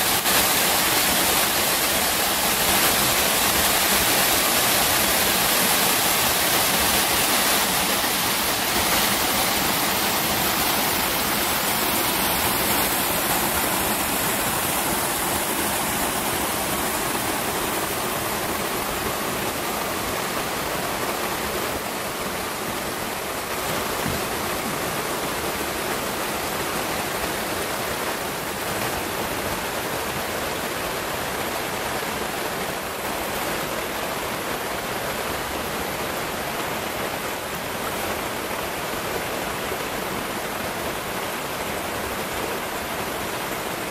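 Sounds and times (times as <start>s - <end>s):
river rushing over rocks: 0.0s - 43.9s.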